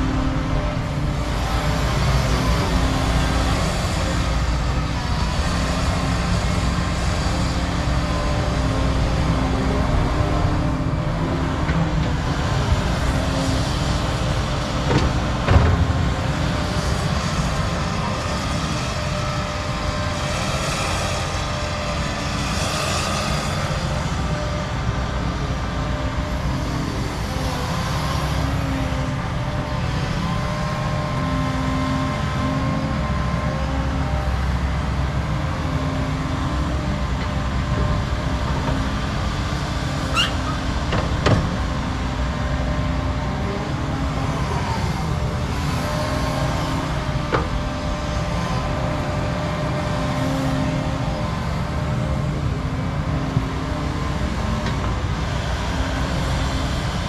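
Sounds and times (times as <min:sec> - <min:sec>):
diesel engine rumble: 0:00.0 - 0:57.0
hydraulic whine: 0:00.0 - 0:57.0.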